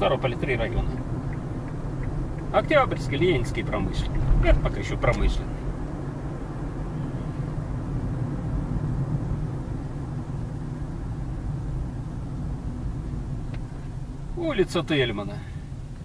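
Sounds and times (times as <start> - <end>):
car interior engine and tyre hum: 0.0 - 16.0.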